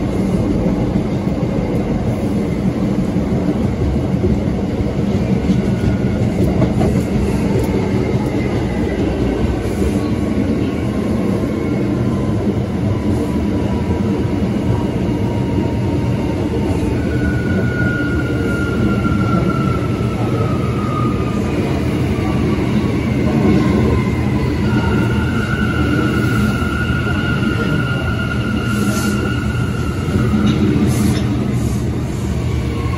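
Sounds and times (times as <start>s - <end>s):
subway motors whining: 0.0s - 32.9s
wheels rumbling on rail: 0.0s - 32.9s.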